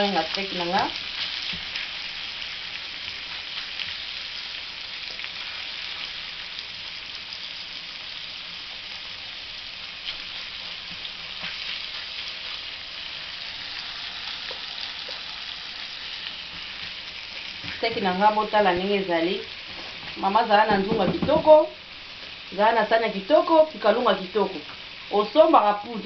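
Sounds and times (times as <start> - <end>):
meat sizzling in a frying pan: 0.0 - 26.0.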